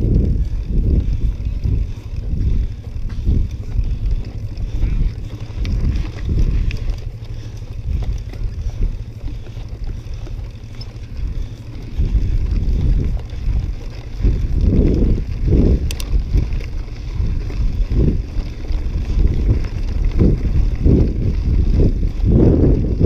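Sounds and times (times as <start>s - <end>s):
bike tyres ticking and rattling: 0.0s - 23.0s
wind buffeting microphone: 0.0s - 23.0s.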